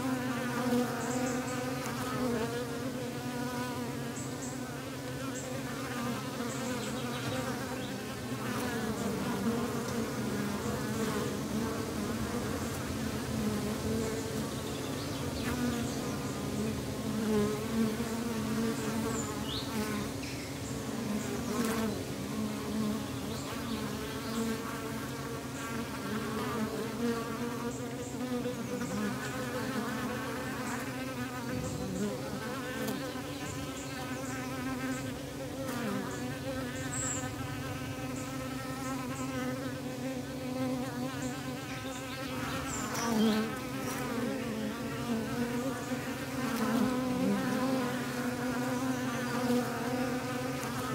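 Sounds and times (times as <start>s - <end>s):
bees buzzing: 0.0s - 50.9s.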